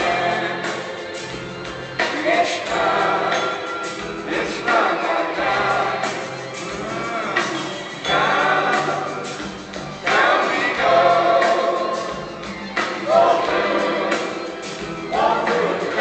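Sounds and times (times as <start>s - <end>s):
live rock band: 0.0s - 16.0s
people singing: 0.0s - 16.0s.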